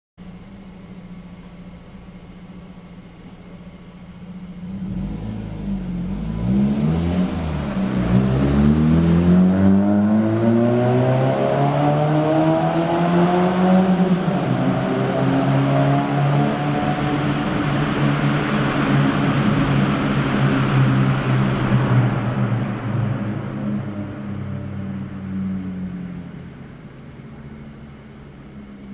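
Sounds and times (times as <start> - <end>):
car engine revving: 4.0 - 28.9.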